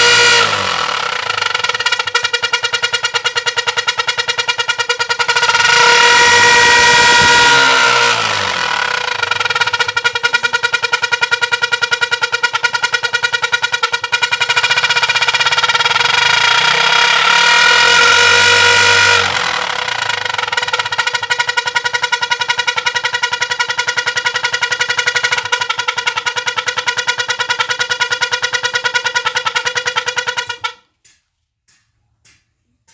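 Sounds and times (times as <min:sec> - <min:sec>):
motorcycle exhaust tone: 0:00.0 - 0:32.9.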